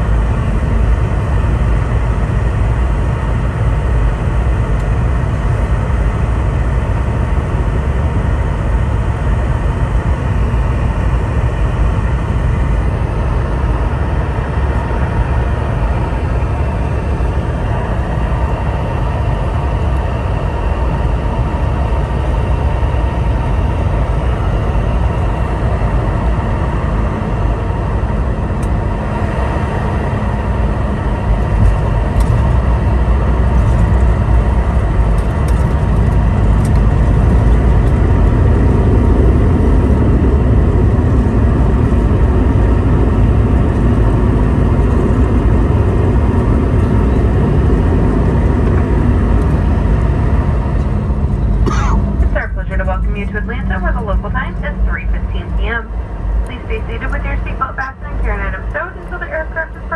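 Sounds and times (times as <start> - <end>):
jet engines and airflow roar: 0.0 - 59.9
low rumble: 0.0 - 59.9.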